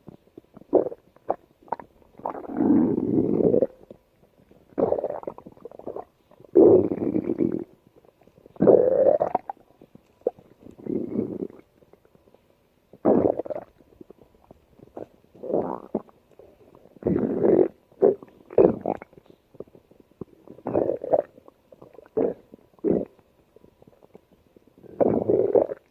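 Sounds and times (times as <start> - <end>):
stomach growling: 0.0 - 25.9.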